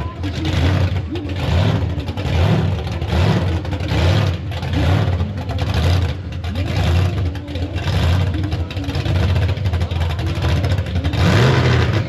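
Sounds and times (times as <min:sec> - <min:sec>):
car engines: 0:00.0 - 0:12.0
crowd noise: 0:00.0 - 0:12.0.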